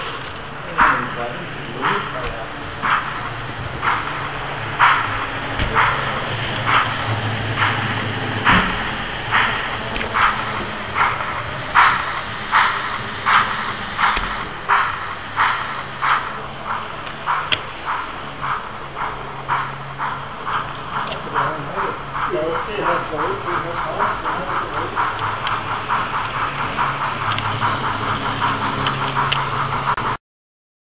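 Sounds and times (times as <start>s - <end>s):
model steam locomotive chuffing: 0.0s - 30.2s
steady hiss of steam: 0.0s - 30.2s.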